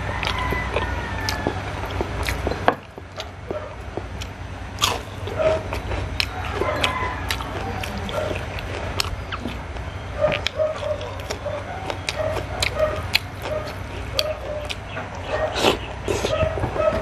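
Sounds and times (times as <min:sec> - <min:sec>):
crunchy bites and chewing: 0:00.0 - 0:16.9.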